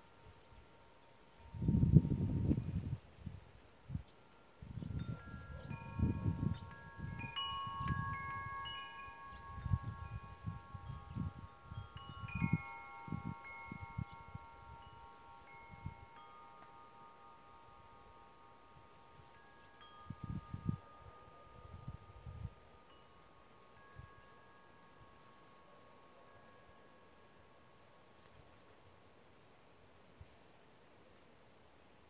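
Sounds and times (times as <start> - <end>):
wind chimes ringing: 0.0 - 28.9.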